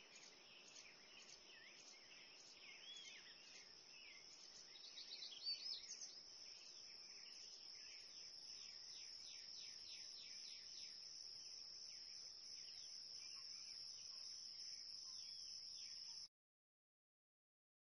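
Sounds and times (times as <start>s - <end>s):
insect chorus: 0.0s - 16.3s.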